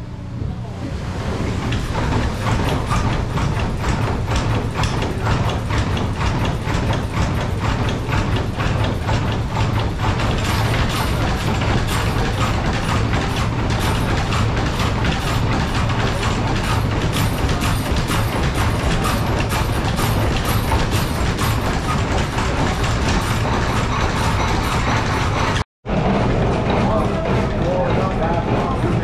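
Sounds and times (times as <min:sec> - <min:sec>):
low rumble of gearing: 0:00.0 - 0:29.0.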